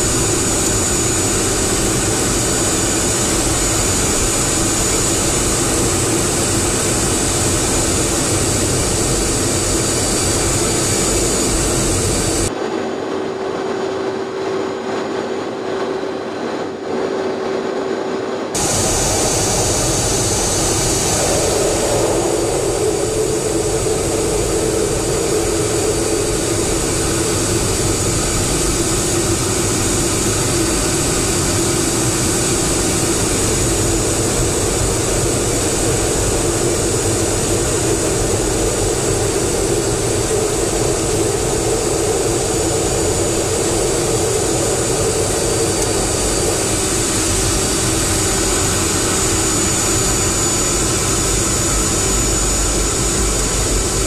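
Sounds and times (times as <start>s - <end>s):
jet engine roar with whine: 0.0s - 54.0s.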